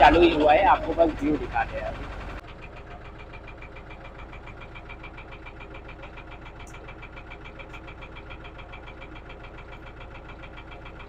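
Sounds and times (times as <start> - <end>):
motorboat engine pulsing: 0.0 - 11.0.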